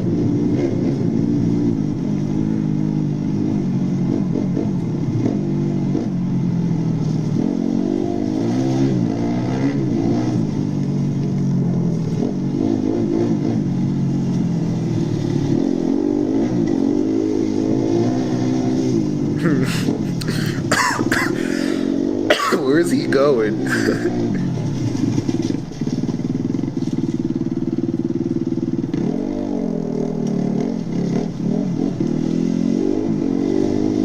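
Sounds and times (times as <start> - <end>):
vehicle engine revving: 0.0 - 34.0.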